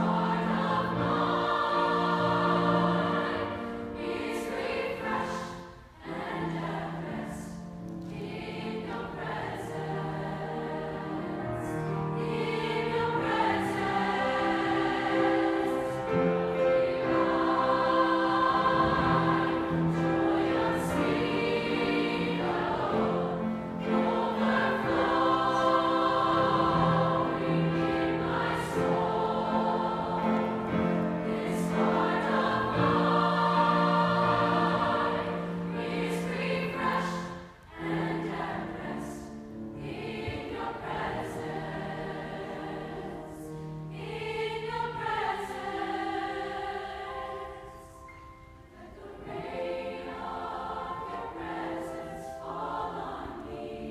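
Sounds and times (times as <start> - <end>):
choir singing sacred song: 0.0 - 53.9
grand piano: 0.0 - 53.9.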